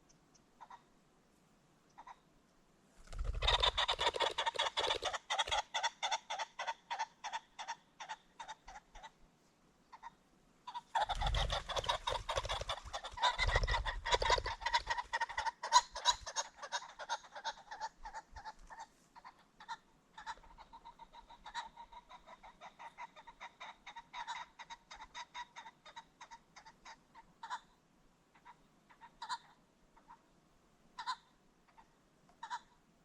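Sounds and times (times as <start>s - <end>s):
pheasant clucking calls: 0.0s - 0.9s, 1.8s - 2.3s, 3.0s - 9.2s, 9.9s - 30.3s, 31.0s - 32.8s.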